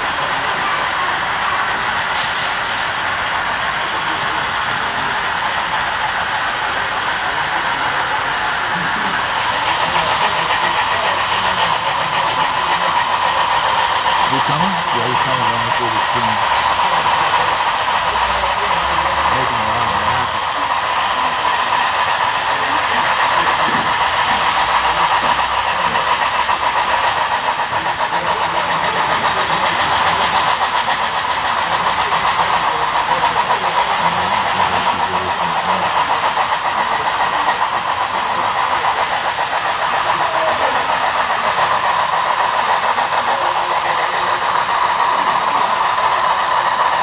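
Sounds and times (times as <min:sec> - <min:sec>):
model locomotive sound systems: 0:00.0 - 0:47.0
model train wheels rolling on track: 0:00.0 - 0:47.0.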